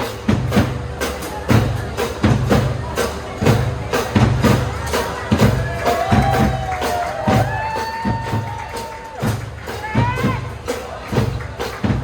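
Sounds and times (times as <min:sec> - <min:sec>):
drum strikes: 0:00.0 - 0:12.0.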